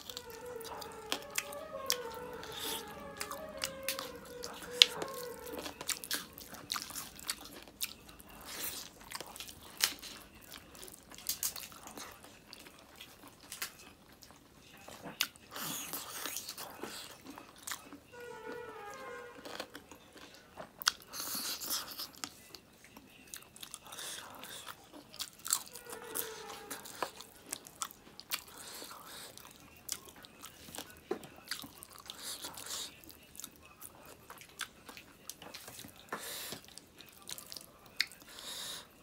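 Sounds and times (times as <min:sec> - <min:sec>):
food crunching: 0:00.0 - 0:38.8
wet chewing and lip smacking: 0:03.6 - 0:18.0, 0:19.6 - 0:38.9.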